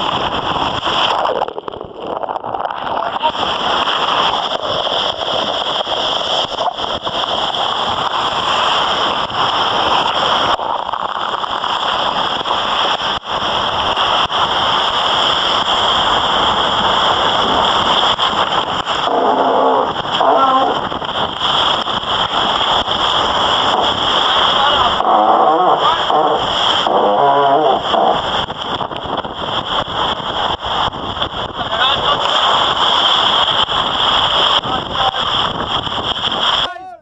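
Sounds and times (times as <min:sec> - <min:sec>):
rushing water: 0:00.0 - 0:37.0
rushing wind: 0:00.0 - 0:37.0
wind buffeting microphone: 0:00.0 - 0:37.0.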